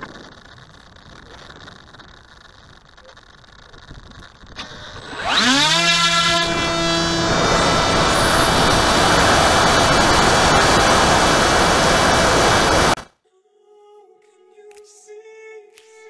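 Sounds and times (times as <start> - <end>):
electric motor whine: 0.0 - 13.0
propeller noise: 0.0 - 13.0
rushing wind: 0.0 - 13.0.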